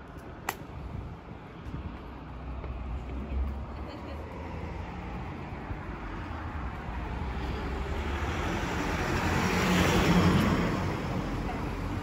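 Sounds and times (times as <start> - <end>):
car passing: 2.2 - 12.0.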